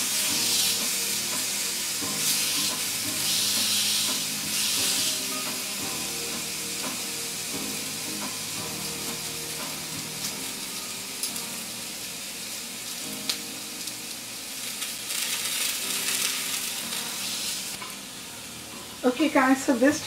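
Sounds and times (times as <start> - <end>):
chicken sizzling on grill pan: 0.0 - 20.0.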